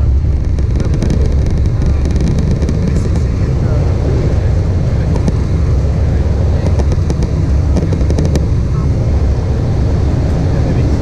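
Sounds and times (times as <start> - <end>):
aircraft rolling on taxiway: 0.0 - 11.0
jet engines rumbling at taxi: 0.0 - 11.0.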